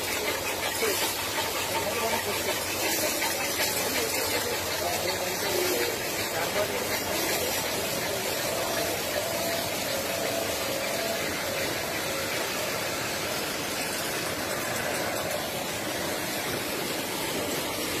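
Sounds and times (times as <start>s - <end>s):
brushes and water spray scrubbing: 0.0s - 18.0s.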